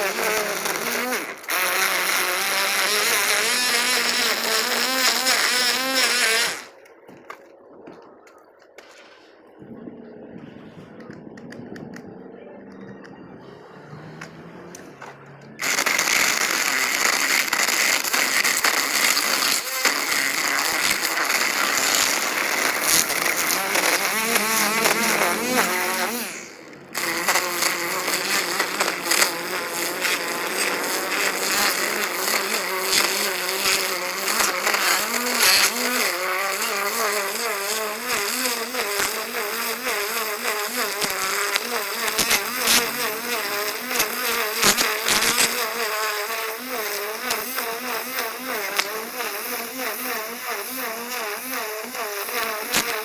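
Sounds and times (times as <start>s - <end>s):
string trimmer buzzing: 0.0s - 6.9s, 13.5s - 53.0s.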